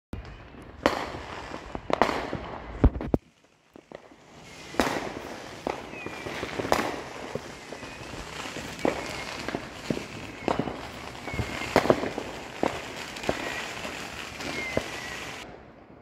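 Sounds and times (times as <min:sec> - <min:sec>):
fireworks bangs and pops: 0:00.2 - 0:16.0
fireworks crackles: 0:00.2 - 0:16.0.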